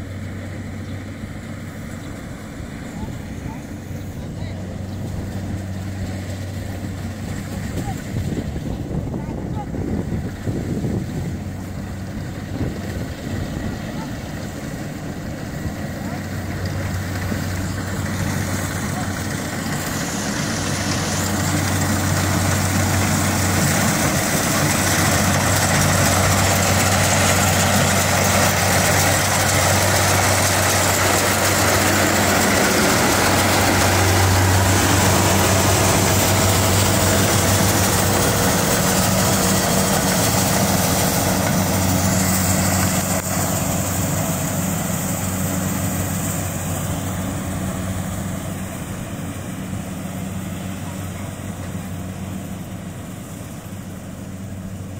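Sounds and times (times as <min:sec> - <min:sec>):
diesel engine hum: 0:00.0 - 0:54.9
machinery whirring: 0:01.2 - 0:54.9.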